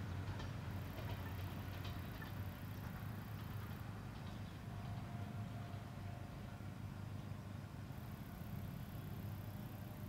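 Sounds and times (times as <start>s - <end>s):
distant diesel railcar rumble: 0.0s - 10.0s.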